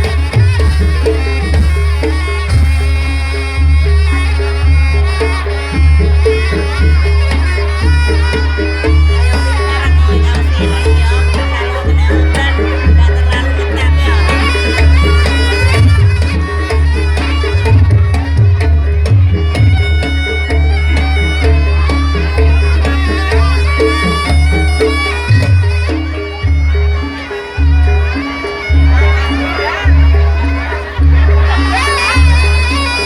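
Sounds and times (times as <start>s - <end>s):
deep bass beat: 0.0s - 33.0s
pitched percussion notes: 0.0s - 33.0s
reed shawm melody: 0.0s - 33.0s.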